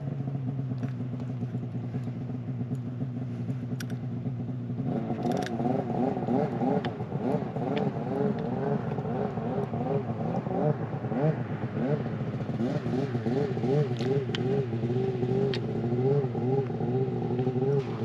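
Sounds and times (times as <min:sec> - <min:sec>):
engine running with wavering pitch: 0:00.0 - 0:18.0.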